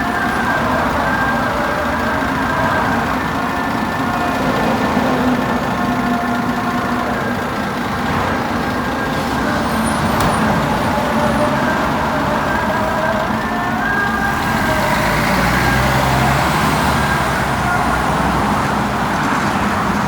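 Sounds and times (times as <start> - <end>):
motor vehicle traffic noise: 0.0 - 20.0.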